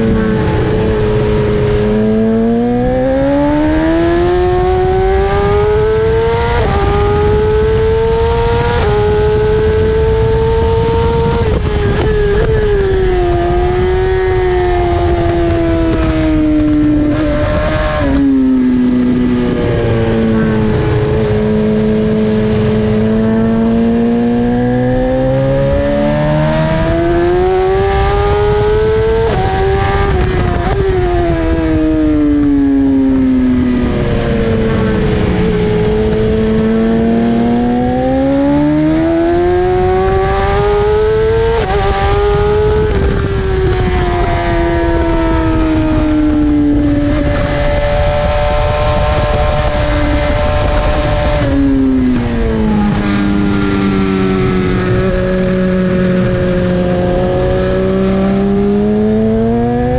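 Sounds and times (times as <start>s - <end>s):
motorcycle engine accelerating: 0.0s - 59.9s
wind rush: 0.0s - 59.9s.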